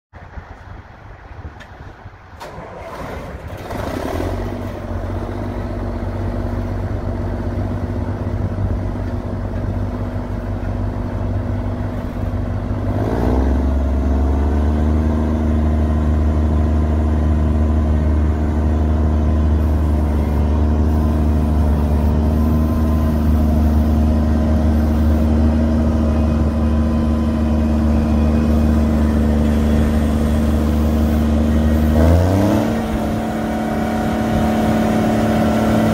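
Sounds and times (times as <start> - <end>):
diesel engine running: 0.2 - 35.9.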